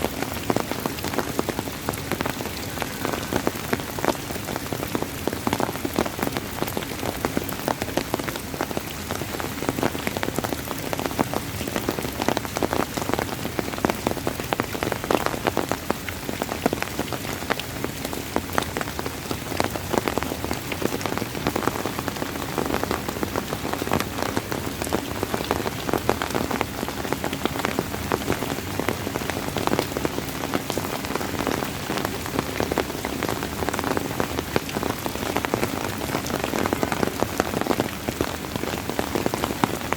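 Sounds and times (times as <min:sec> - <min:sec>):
rain falling: 0:00.0 - 0:39.9
raindrops pattering on a surface: 0:00.0 - 0:39.9.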